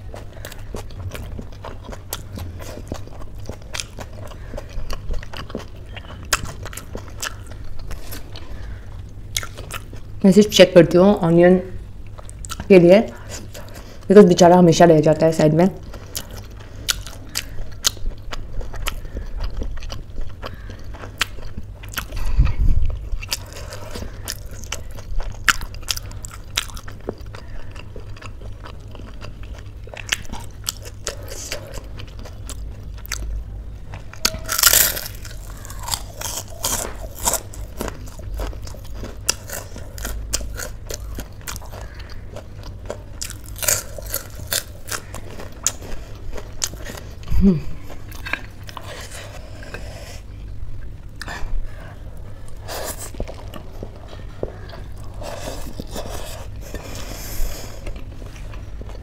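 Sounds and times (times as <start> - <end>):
crunchy chewing of raw vegetables: 0.0 - 10.2, 11.9 - 14.3, 15.7 - 59.0.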